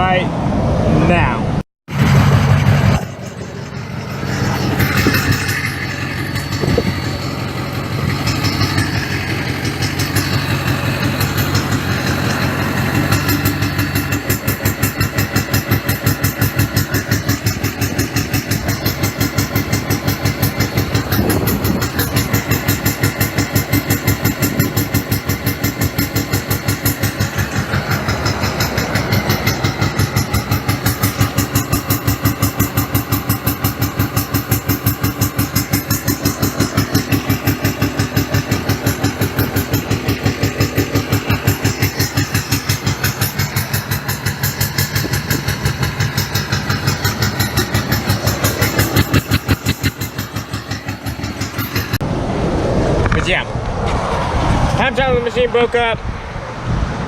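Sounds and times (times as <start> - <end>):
truck engine running: 1.9 - 57.0.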